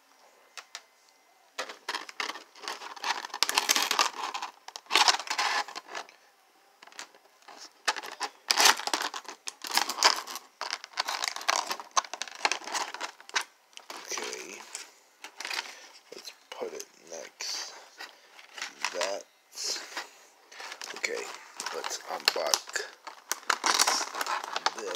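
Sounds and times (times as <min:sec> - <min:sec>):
plastic packaging crinkling: 0:01.6 - 0:06.1, 0:06.8 - 0:24.9.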